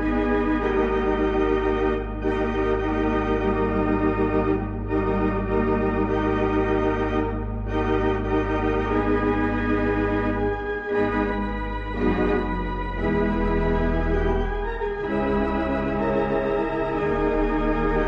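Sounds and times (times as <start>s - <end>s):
organ playing sustained chords: 0.0s - 18.0s.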